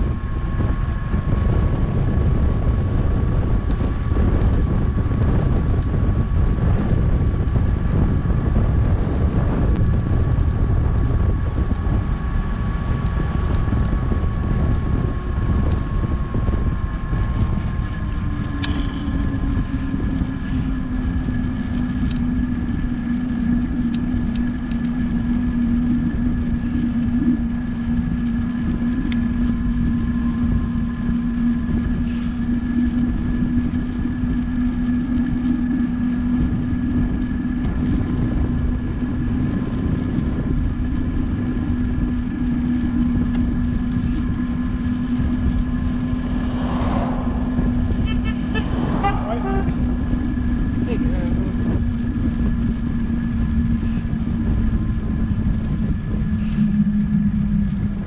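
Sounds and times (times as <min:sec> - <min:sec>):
steady low hum: 0:00.0 - 0:58.0
wind rumbling on microphone: 0:00.0 - 0:58.0.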